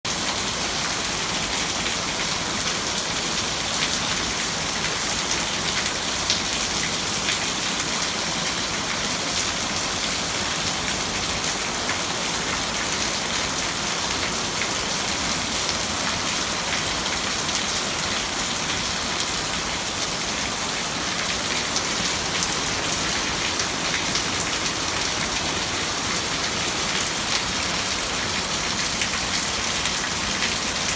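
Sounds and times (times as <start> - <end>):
heavy rain pouring: 0.1 - 30.9.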